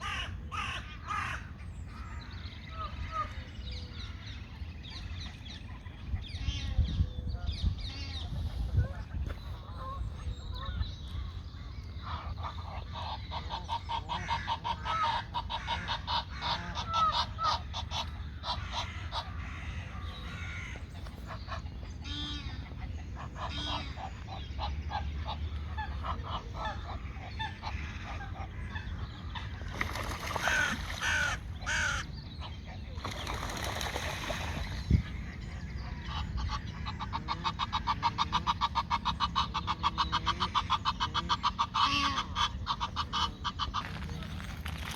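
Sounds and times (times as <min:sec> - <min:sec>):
birds calling rapidly: 0:00.0 - 0:44.9.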